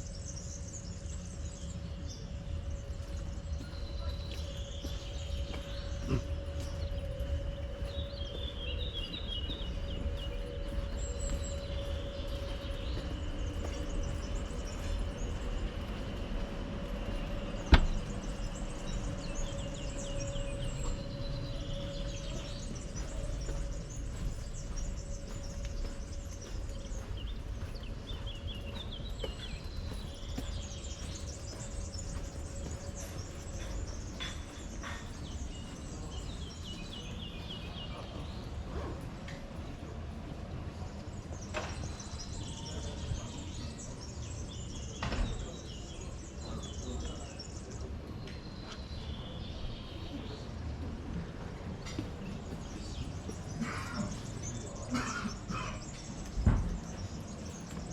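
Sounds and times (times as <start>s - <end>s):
small birds chirping: 0.0s - 50.6s.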